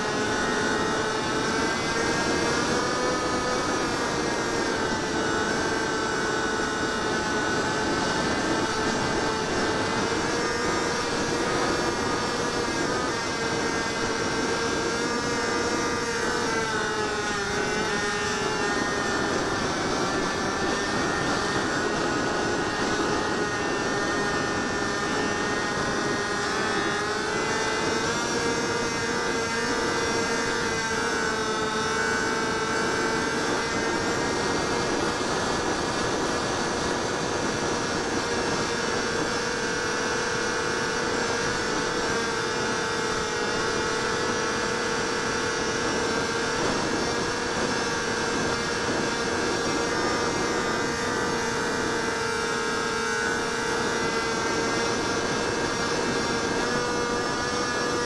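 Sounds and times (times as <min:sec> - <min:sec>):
electric motor and propeller whining: 0:00.0 - 0:58.0.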